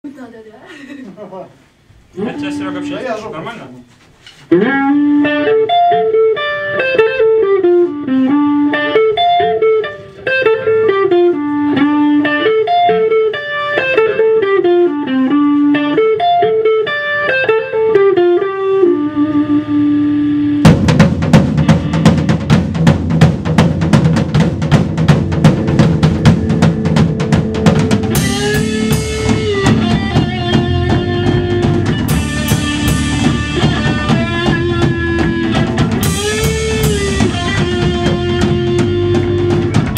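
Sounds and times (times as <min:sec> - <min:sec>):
rock band with drums: 0:00.9 - 0:39.9
plucked guitar riff: 0:04.5 - 0:23.0, 0:23.6 - 0:39.9.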